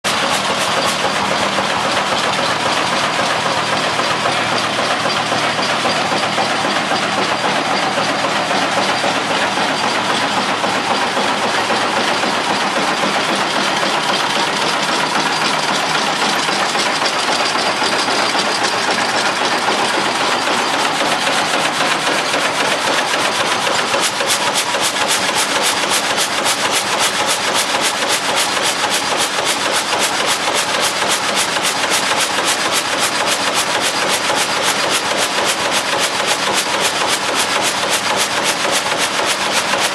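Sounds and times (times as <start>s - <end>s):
frame saw cutting log: 0.0s - 39.9s.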